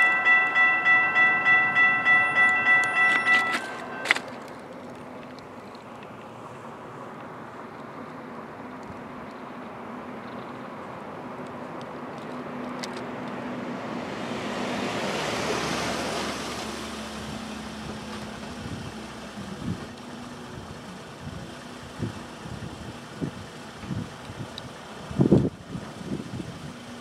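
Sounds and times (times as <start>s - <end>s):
pickup truck engine: 0.0s - 27.0s.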